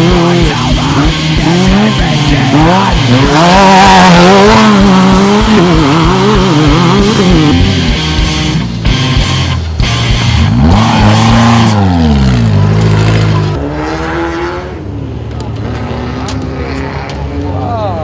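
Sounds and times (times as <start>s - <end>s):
engine revving hard: 0.0s - 14.8s.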